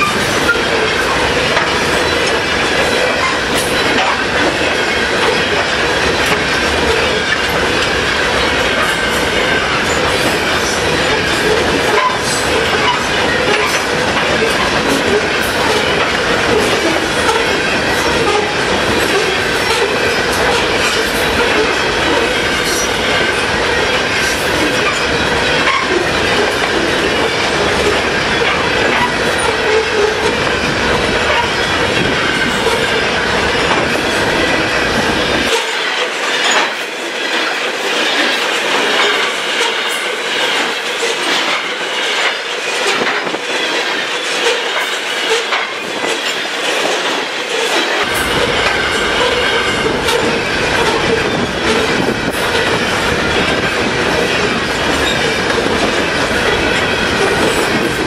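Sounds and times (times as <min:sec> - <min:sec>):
clickety-clack over rail joints: 0:00.0 - 0:58.0
steel wheels on rail: 0:00.0 - 0:58.0.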